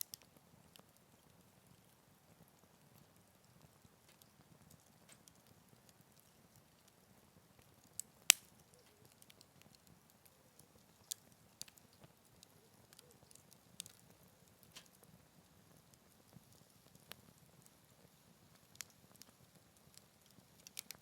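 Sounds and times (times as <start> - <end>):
faint low hiss: 0.0 - 21.0
firewood crackling: 0.0 - 21.0.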